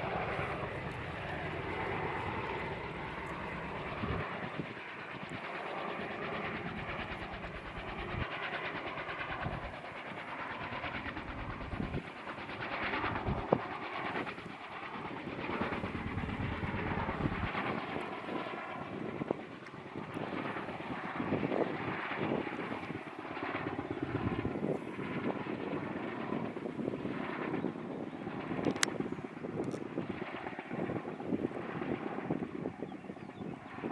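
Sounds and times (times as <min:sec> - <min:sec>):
helicopter engine noise: 0:00.0 - 0:33.9
helicopter rotor beat: 0:00.0 - 0:33.9.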